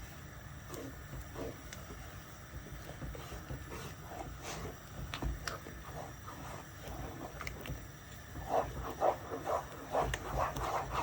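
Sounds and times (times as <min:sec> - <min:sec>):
spoon stirring thick porridge: 0:00.6 - 0:11.0.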